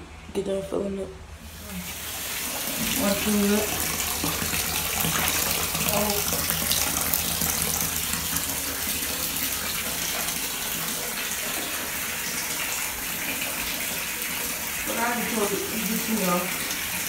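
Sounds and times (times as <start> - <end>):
water running into bathtub: 1.4 - 17.0.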